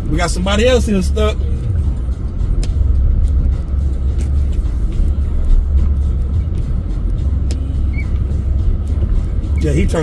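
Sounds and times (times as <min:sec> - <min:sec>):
truck engine rumble from inside cab: 0:00.0 - 0:10.0.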